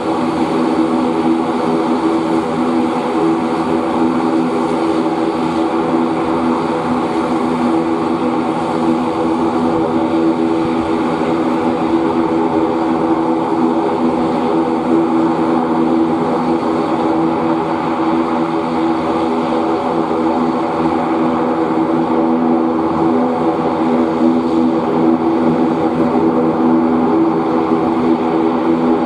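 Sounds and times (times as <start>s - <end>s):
turboprop engines droning: 0.0s - 29.0s.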